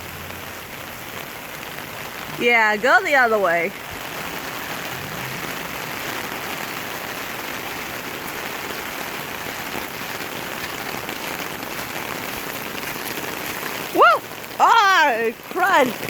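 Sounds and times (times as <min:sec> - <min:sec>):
heavy rain splashing: 0:00.0 - 0:16.0.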